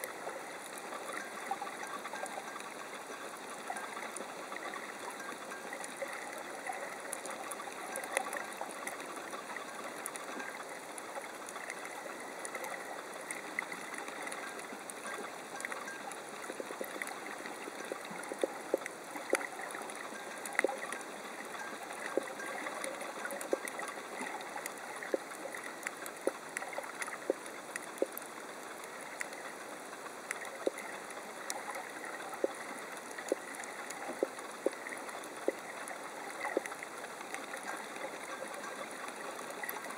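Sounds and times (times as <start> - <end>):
sharp underwater clicks: 0.0 - 39.9
underwater crackling hiss: 0.0 - 39.9.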